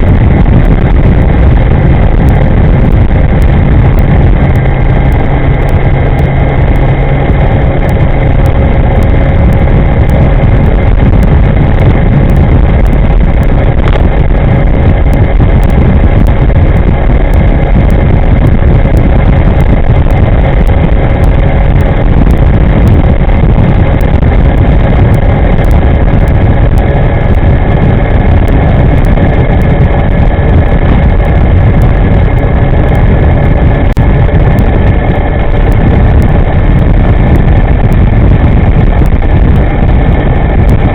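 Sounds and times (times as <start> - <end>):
electric motor whine: 0.0 - 40.9
wind rushing over microphone: 0.0 - 40.9.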